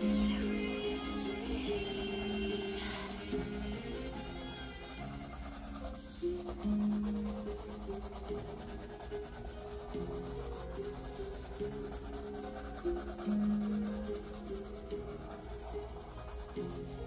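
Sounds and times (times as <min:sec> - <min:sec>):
music of long held notes: 0:00.0 - 0:17.0
pencil shading on paper: 0:00.0 - 0:17.0.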